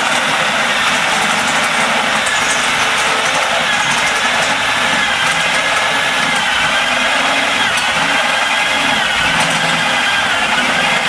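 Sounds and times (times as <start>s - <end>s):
electric drill cutting sheet metal: 0.0s - 11.0s.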